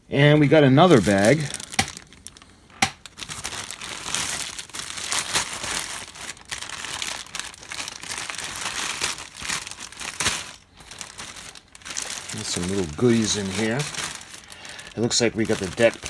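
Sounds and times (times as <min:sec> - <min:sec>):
plastic bag crinkling: 0:00.3 - 0:16.0.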